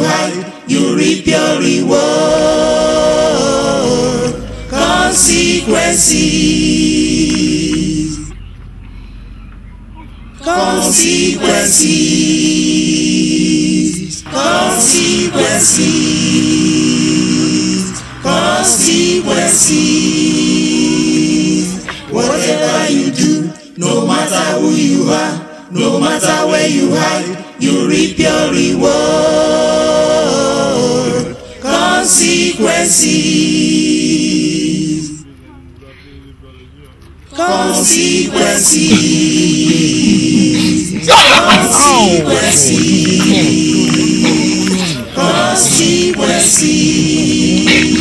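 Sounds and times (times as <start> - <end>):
unaccompanied voices singing: 0.0 - 8.9, 9.9 - 35.9, 37.0 - 48.0.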